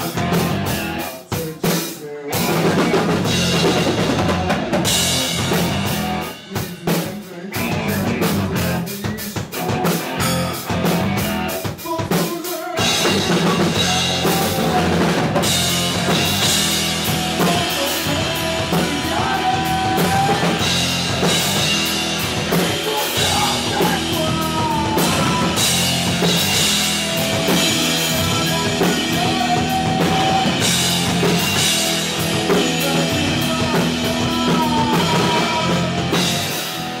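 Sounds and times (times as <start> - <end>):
electric guitars: 0.0 - 1.4, 2.3 - 37.0
bass guitar: 0.0 - 1.7, 2.3 - 12.2, 12.8 - 37.0
man singing: 0.0 - 36.6
drum kit: 0.0 - 37.0.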